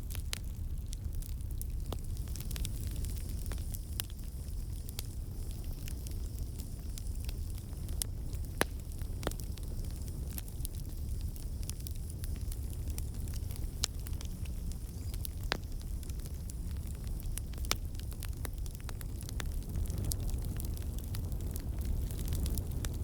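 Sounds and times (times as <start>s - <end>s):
campfire burning: 0.0s - 23.0s
fire crackling and popping: 0.0s - 23.0s.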